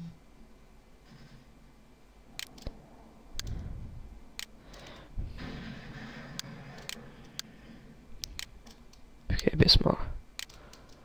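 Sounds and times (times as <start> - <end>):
faint low room noise: 0.0 - 11.0.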